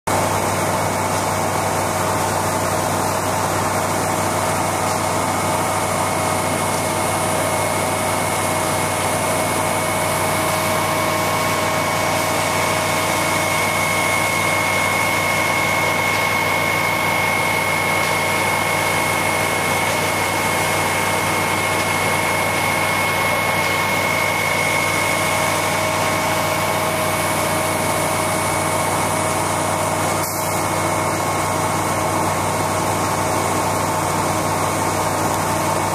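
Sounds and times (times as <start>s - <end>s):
steady high whine: 0.1s - 35.9s
heavy truck engines running: 0.2s - 35.9s.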